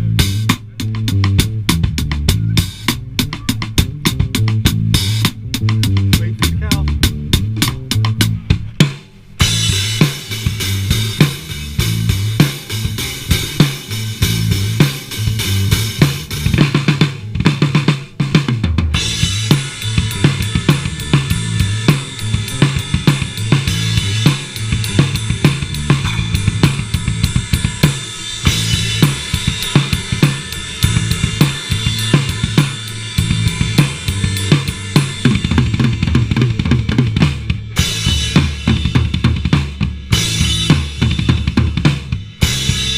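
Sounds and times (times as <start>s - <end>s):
low repeating bass line: 0.0s - 8.8s, 9.4s - 42.9s
drum kit playing a steady beat: 0.0s - 42.9s.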